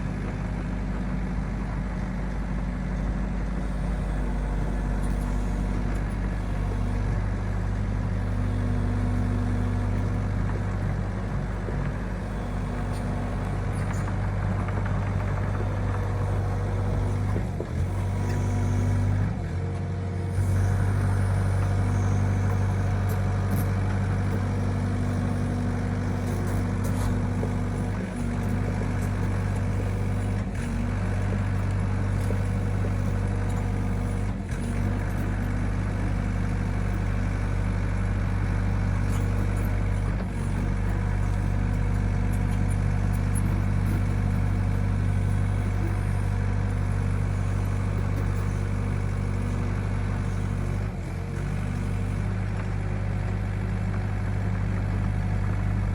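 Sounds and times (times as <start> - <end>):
excavator engine running: 0.0 - 55.9.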